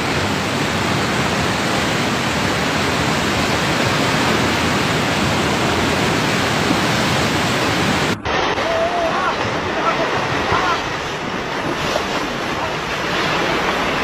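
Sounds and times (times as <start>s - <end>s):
river floodwaters rushing: 0.0s - 14.0s.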